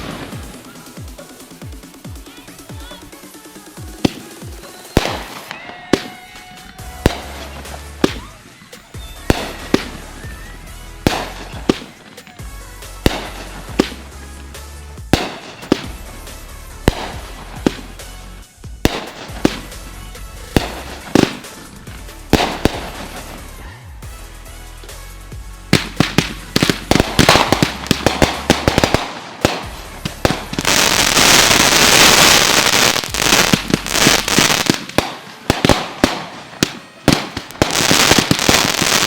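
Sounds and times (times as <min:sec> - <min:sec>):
electronic dance music: 0:00.0 - 0:39.0
fireworks bangs: 0:00.0 - 0:39.0.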